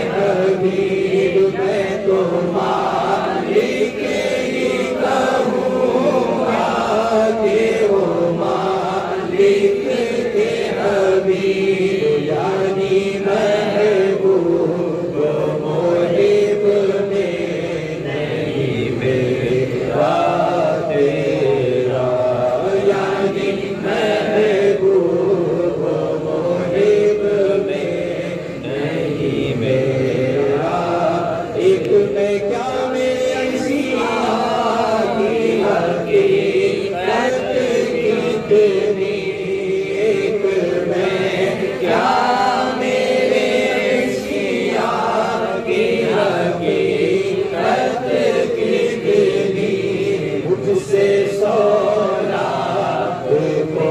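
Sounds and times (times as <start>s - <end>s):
man singing unaccompanied: 0.0s - 53.9s.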